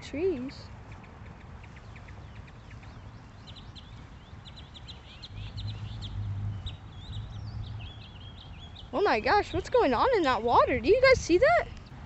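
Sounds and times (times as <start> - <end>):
high bird calls chirping: 0.2 - 10.6.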